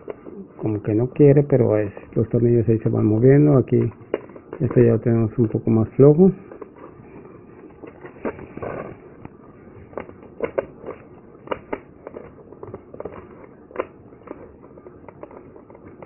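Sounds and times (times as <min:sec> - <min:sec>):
packaging rustle: 0:00.0 - 0:16.0.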